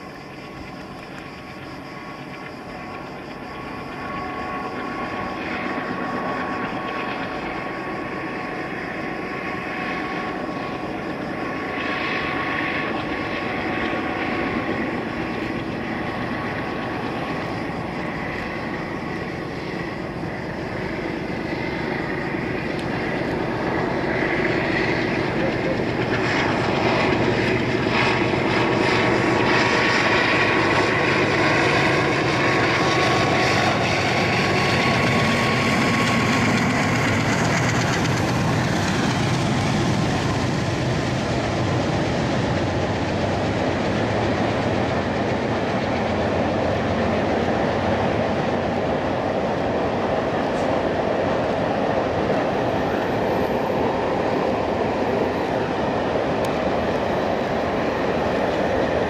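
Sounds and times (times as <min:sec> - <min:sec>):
diesel locomotive engines whining: 0:00.0 - 0:59.0.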